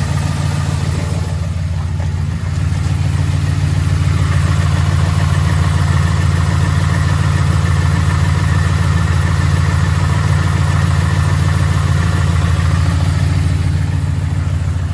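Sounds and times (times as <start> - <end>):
engine idling with a knock: 0.0 - 14.9.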